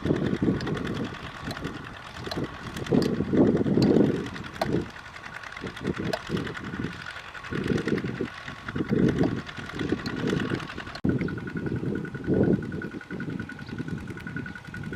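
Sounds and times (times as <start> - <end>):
scattered clicks: 0.0 - 14.9
tractor engine running: 0.0 - 14.9.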